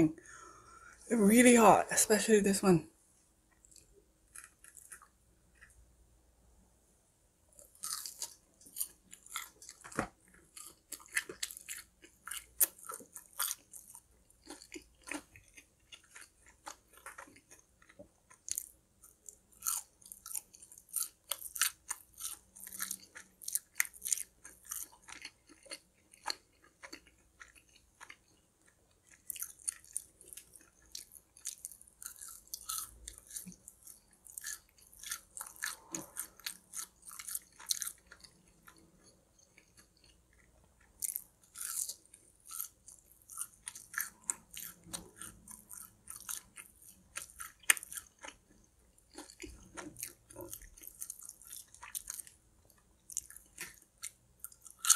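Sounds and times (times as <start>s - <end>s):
crunchy food chewed: 3.5s - 5.8s, 7.5s - 54.9s.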